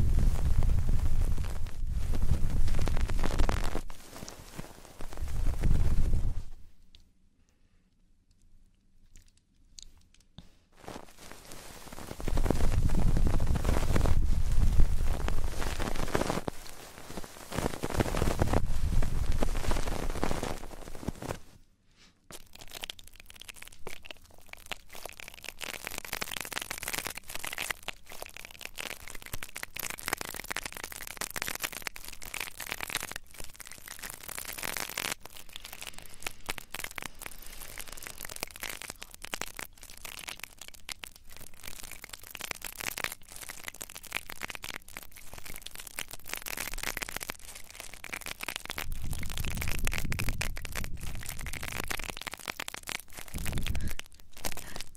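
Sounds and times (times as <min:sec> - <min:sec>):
crackling and rustling at microphone: 0:00.0 - 0:07.0, 0:09.2 - 0:54.9.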